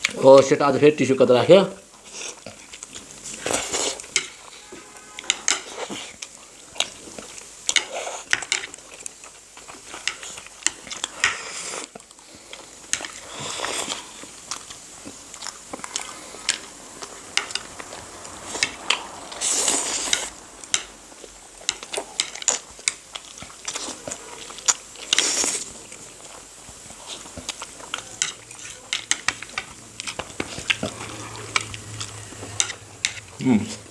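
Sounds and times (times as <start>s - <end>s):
person chewing food: 1.8s - 33.9s
utensils clinking against bowls: 2.3s - 9.1s, 12.8s - 33.9s.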